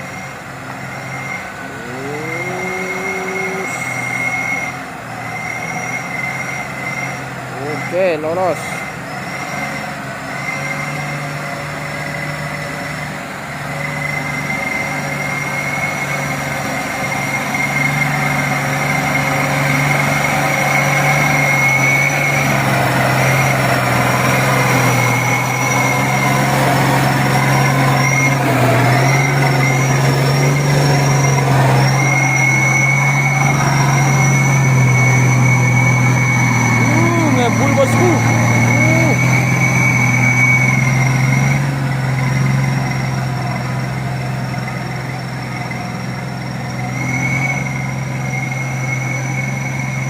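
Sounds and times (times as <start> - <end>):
dump truck diesel engine under load: 0.0 - 50.0
high engine whine: 0.0 - 50.0.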